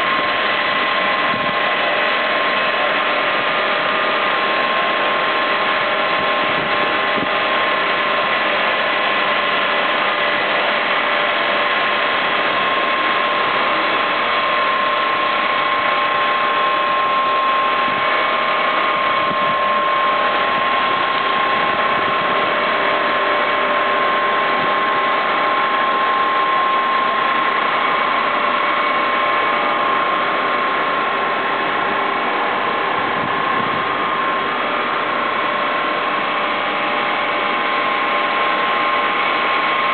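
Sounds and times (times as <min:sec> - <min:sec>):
constant machine whine: 0:00.0 - 0:39.9
plant machinery running: 0:00.0 - 0:39.9.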